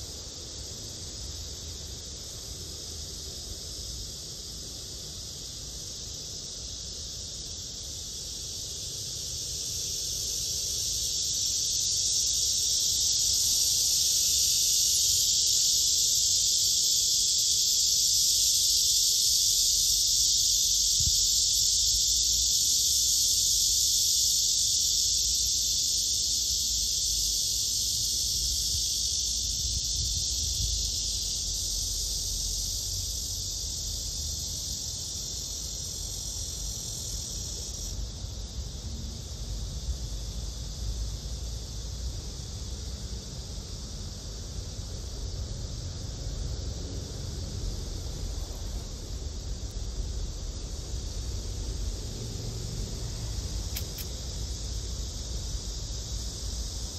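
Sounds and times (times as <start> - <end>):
cicada shrill buzz: 0.0 - 56.9.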